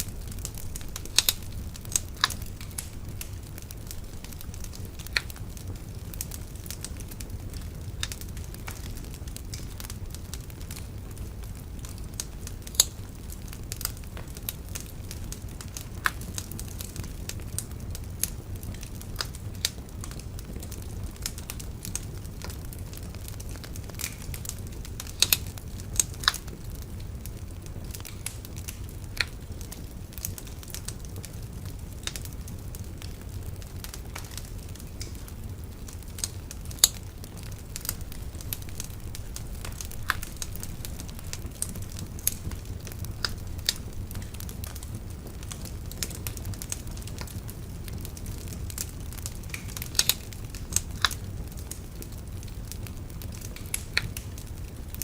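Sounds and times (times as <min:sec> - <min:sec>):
bonfire crackling and popping: 0:00.0 - 0:55.0
low rumble of fire: 0:00.0 - 0:55.0.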